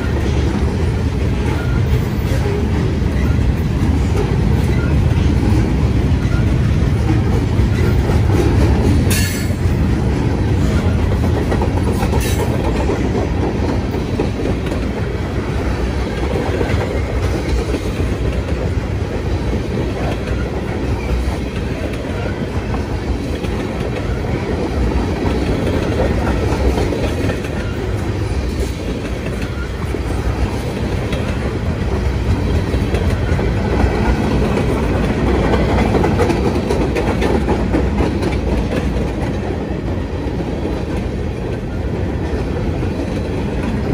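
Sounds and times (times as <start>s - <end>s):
train wheels rumbling on rails: 0.0s - 43.9s
wheels clacking over rail joints: 0.0s - 43.9s.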